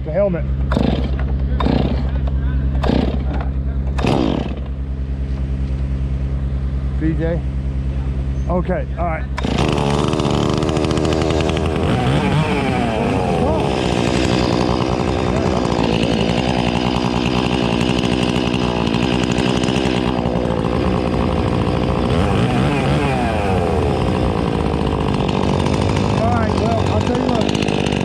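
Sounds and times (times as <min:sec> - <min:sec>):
chainsaw cutting wood: 0:00.6 - 0:05.8, 0:09.3 - 0:28.0.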